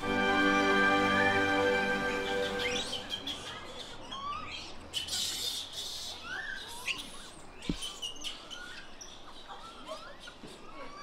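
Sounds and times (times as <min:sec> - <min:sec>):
birds chirping: 0:00.9 - 0:11.0.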